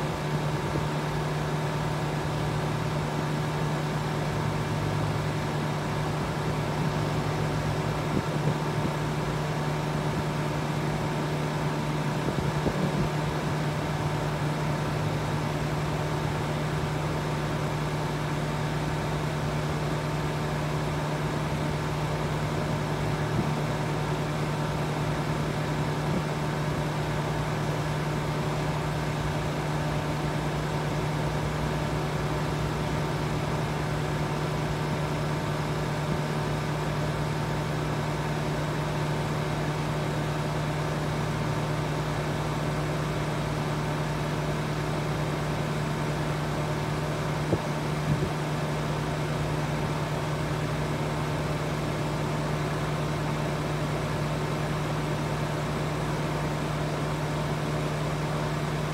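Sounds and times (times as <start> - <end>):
air conditioner unit humming: 0.0 - 58.9
condenser fan rushing: 0.0 - 58.9.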